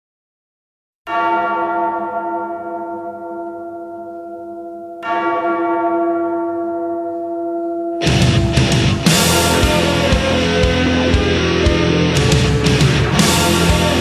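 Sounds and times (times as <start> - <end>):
church bell tolling: 1.1 - 14.0.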